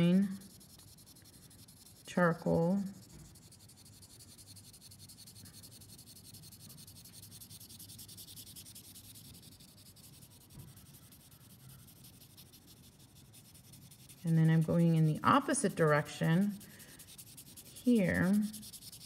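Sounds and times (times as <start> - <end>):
charcoal scratching on paper: 0.0 - 19.0.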